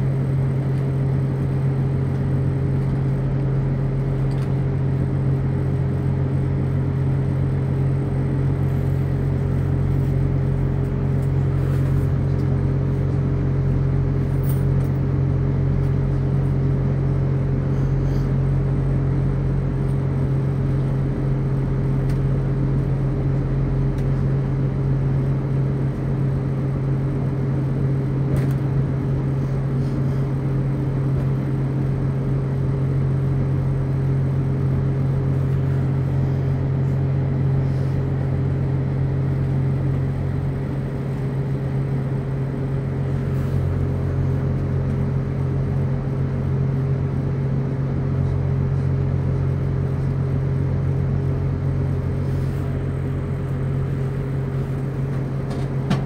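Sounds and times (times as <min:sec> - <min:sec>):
diesel train engine hum: 0:00.0 - 0:56.0.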